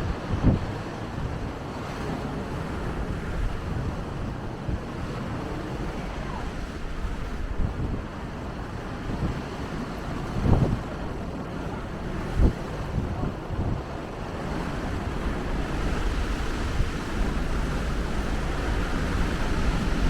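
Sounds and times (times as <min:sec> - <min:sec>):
sea surf rushing: 0:00.0 - 0:20.0
wind buffeting microphone: 0:00.0 - 0:20.0.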